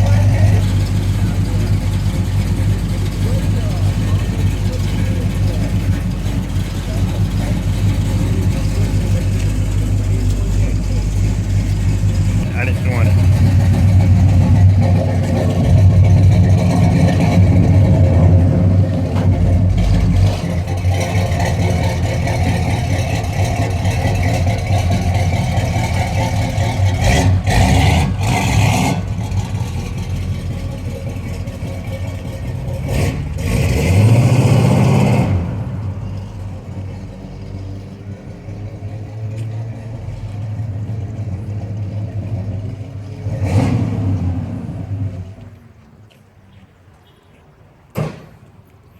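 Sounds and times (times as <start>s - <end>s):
lopey car engine idling: 0.0s - 34.2s, 35.0s - 43.4s.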